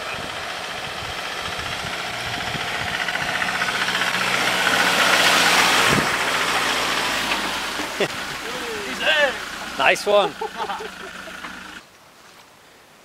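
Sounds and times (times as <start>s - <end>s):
vehicle engine passing: 0.0s - 11.8s
tyres hissing on wet road: 0.4s - 11.8s.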